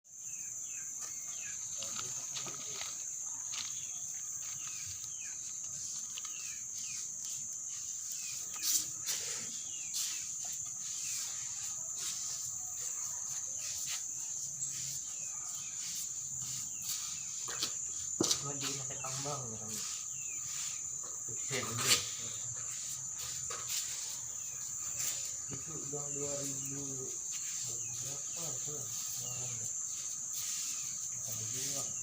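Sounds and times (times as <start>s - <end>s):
high insect trill: 0.0s - 32.0s
bird chirps: 0.1s - 32.0s.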